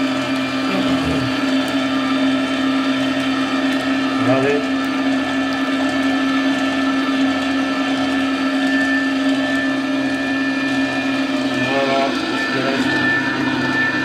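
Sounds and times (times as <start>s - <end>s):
juicer motor hum: 0.0s - 14.0s.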